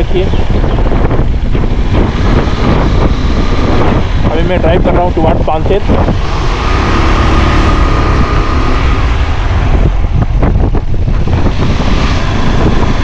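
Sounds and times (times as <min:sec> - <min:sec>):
motorcycle engine and tyre rumble: 0:00.0 - 0:13.0
wind rushing over microphone: 0:00.0 - 0:13.0.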